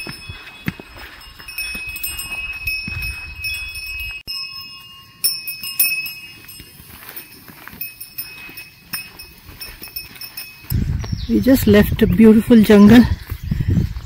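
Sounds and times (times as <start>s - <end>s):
horse bells ringing: 0.0s - 13.2s
birds chirping: 0.0s - 14.0s.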